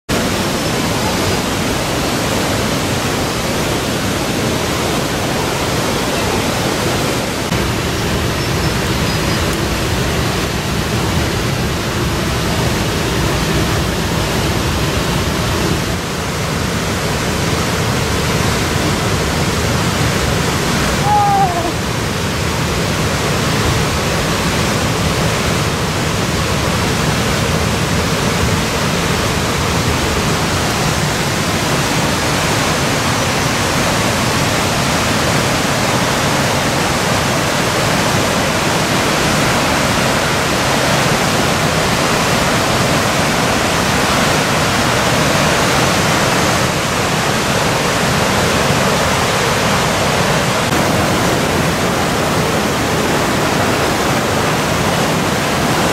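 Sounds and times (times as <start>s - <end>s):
river rapids roaring: 0.1s - 55.9s.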